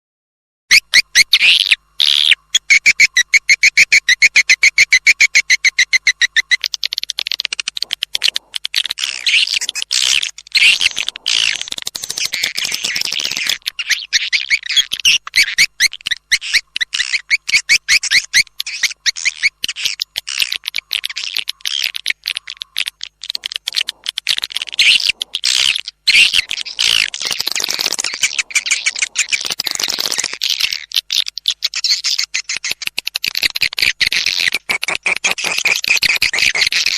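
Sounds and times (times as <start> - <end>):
swiftlet chirping calls: 0.7 - 36.9.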